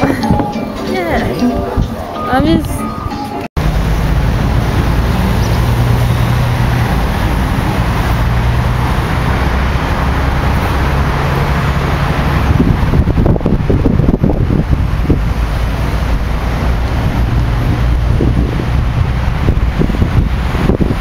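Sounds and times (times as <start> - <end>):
bus engine humming: 0.0 - 21.0
road and traffic noise: 0.0 - 21.0
wind buffeting microphone: 0.0 - 21.0.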